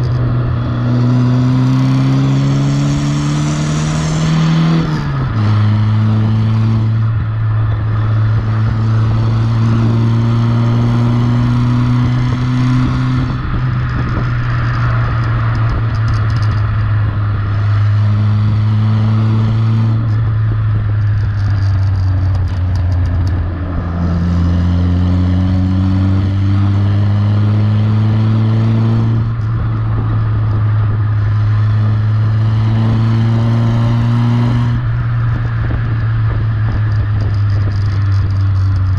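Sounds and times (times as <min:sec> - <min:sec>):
car exhaust engine note: 0:00.0 - 0:38.9
road and wind noise: 0:00.0 - 0:38.9.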